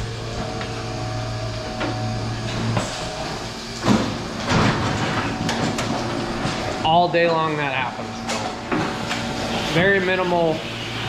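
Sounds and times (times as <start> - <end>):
milking machine humming: 0.0 - 11.0.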